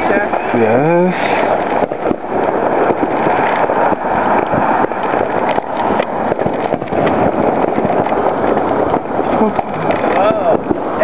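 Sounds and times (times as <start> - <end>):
fireworks popping and crackling: 0.0 - 11.0
steady rushing noise: 0.0 - 11.0.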